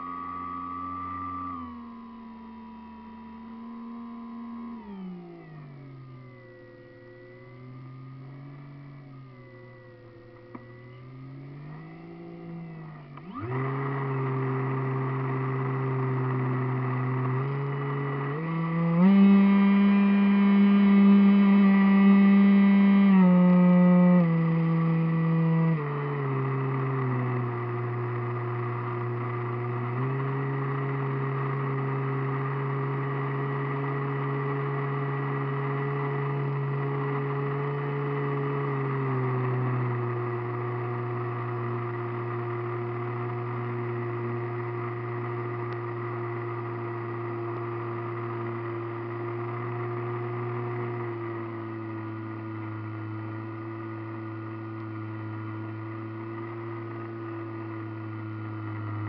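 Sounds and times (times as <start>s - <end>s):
model airplane motor and propeller: 0.0s - 59.0s.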